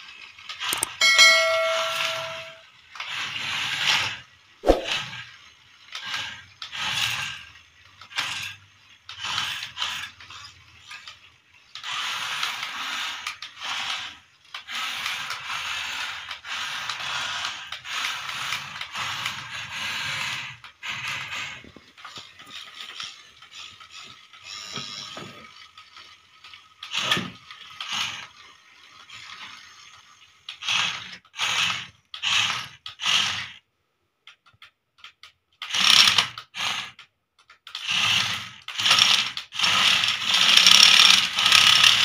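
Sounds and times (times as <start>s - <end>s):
toy motors whirring: 0.0s - 42.0s.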